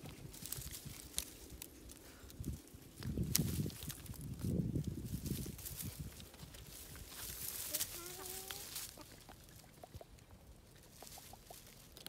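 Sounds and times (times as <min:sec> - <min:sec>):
twigs and leaves rustling and crackling: 0:00.0 - 0:12.0.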